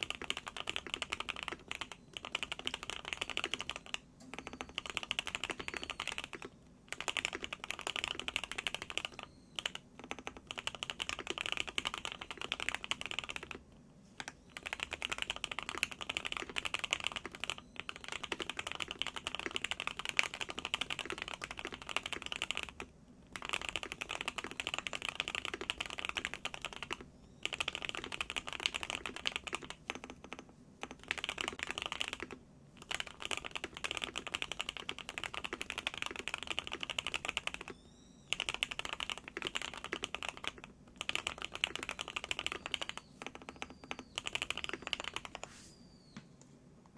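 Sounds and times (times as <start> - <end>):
mechanical keyboard typing: 0.0 - 13.6, 14.2 - 45.5.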